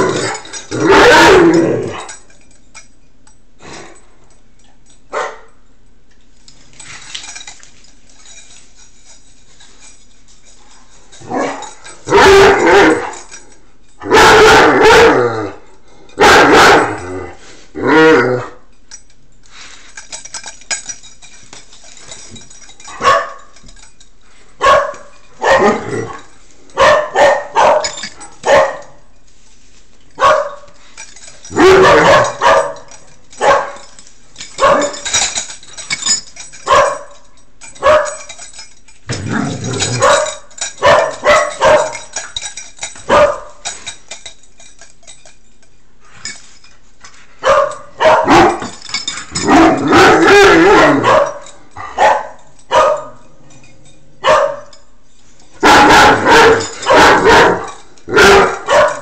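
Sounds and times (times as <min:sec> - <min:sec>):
dogs barking and yipping: 0:00.0 - 0:02.5, 0:06.7 - 0:15.5, 0:16.1 - 0:17.2, 0:20.0 - 0:24.0, 0:24.6 - 0:29.1, 0:30.1 - 0:45.3, 0:47.4 - 0:59.0.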